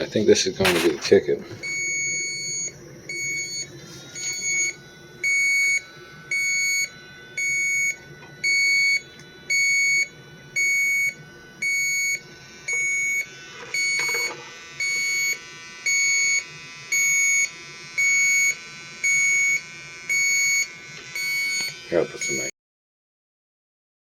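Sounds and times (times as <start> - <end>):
leak detector beeping: 0.6 - 22.5.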